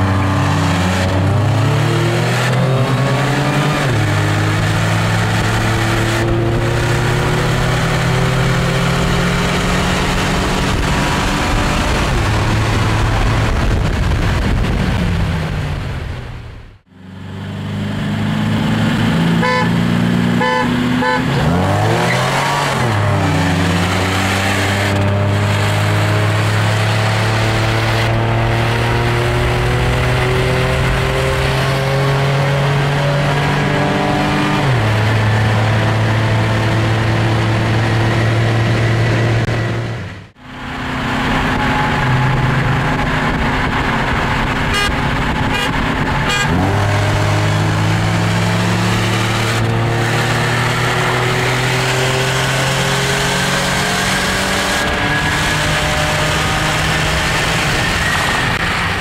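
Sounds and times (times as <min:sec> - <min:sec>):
car engine accelerating hard: 0:00.0 - 0:16.2, 0:17.0 - 0:59.0.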